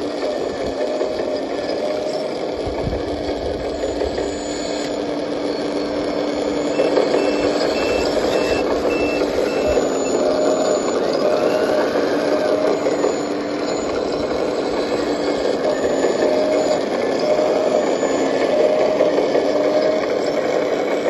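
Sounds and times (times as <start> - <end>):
bulldozer diesel engine droning: 0.0 - 21.0
reversing alarm beeping: 3.5 - 21.0.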